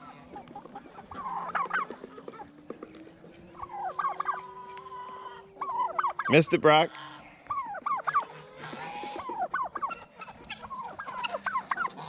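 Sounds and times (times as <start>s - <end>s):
turkeys yelping and clucking: 0.0s - 12.0s.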